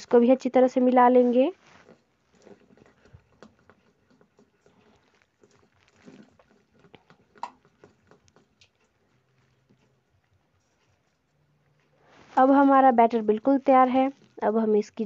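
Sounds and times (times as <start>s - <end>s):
spoon stirring batter: 0.0s - 15.0s.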